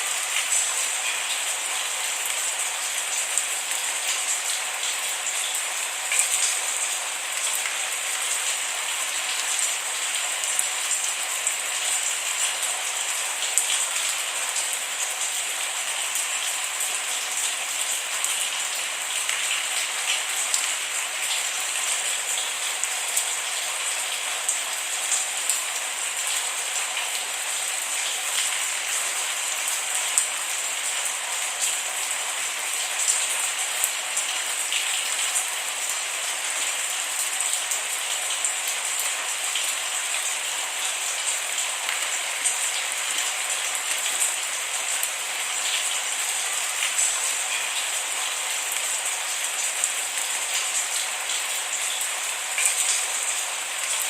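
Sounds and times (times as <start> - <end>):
rain drops ticking on surface: 0.0 - 54.0.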